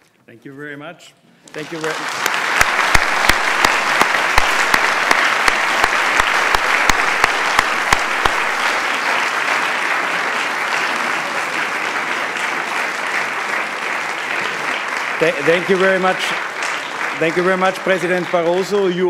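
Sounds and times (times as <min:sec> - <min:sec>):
audience applauding: 0:01.5 - 0:19.0
close-up hand claps: 0:01.5 - 0:19.0.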